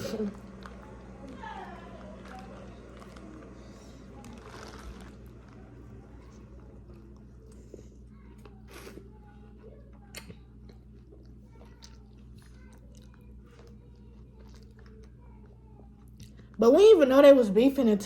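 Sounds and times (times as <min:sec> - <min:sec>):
chewing with crunches: 0:00.0 - 0:16.6
steady low hum: 0:00.0 - 0:18.0.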